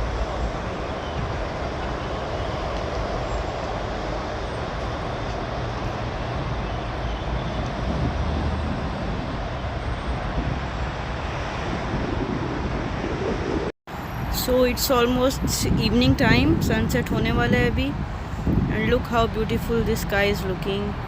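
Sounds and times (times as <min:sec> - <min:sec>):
wind blowing across microphone: 0:00.0 - 0:21.0.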